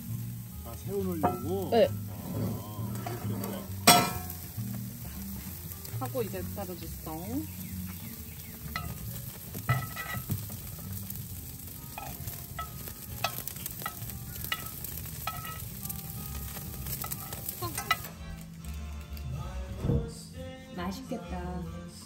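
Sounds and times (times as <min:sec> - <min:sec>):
food sizzling on grill: 0:00.0 - 0:19.8.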